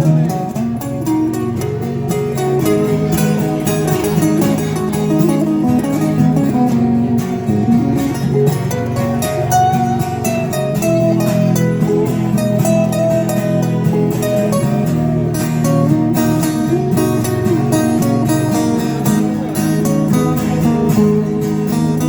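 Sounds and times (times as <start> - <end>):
guitar melody line: 0.0 - 22.0
guitar strumming chords: 0.0 - 22.0.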